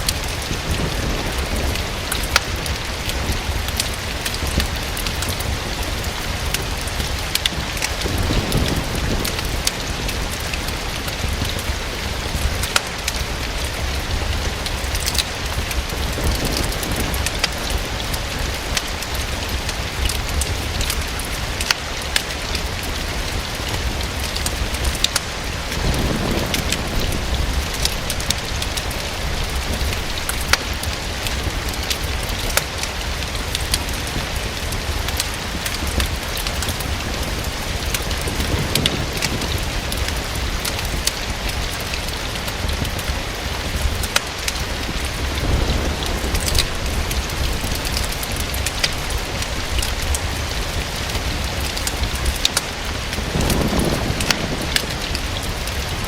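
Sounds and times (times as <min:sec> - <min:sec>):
rain pattering on a window: 0:00.0 - 0:56.0
wood fire crackling: 0:00.0 - 0:56.0.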